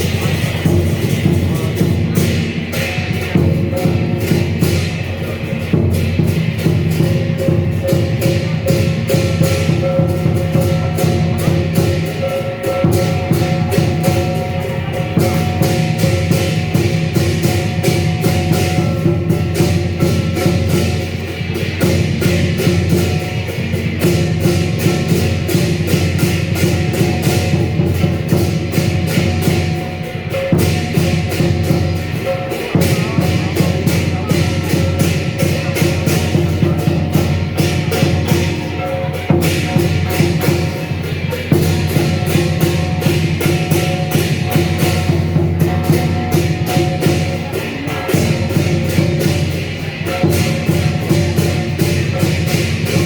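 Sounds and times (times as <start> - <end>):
big drum beating: 0.0 - 53.0
cymbals crashing: 0.0 - 53.0.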